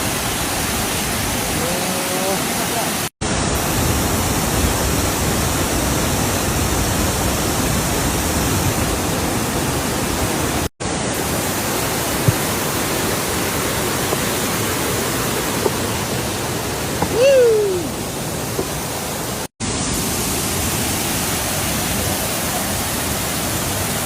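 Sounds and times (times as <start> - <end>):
waterfall rushing water: 0.0 - 24.0.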